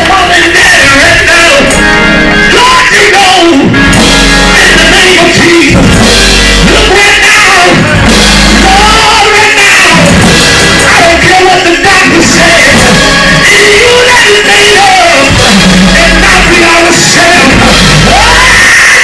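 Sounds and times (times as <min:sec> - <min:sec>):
full band playing: 0:00.0 - 0:19.0
person singing: 0:00.0 - 0:19.0.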